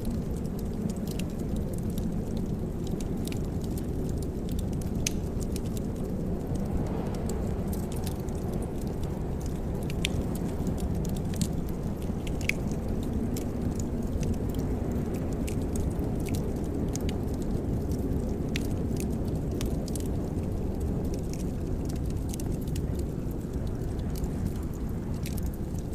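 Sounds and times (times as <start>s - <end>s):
low rushing of fire: 0.0s - 25.9s
wood fire popping and snapping: 0.0s - 25.9s.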